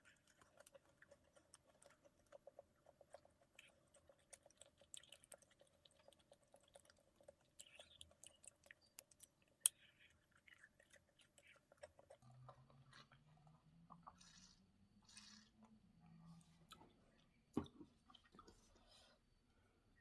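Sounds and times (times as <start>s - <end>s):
chewing with mouth clicks: 0.0s - 17.3s.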